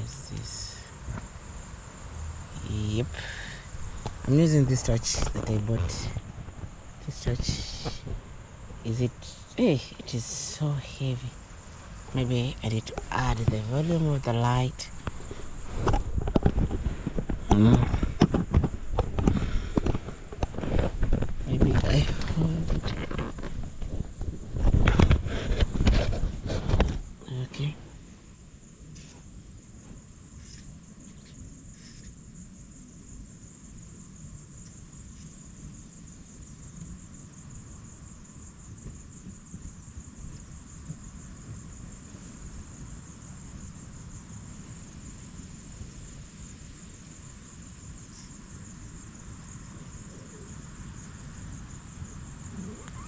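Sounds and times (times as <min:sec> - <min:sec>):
crickets trilling: 0:00.0 - 0:53.0
low rumbling background noise: 0:00.0 - 0:53.0.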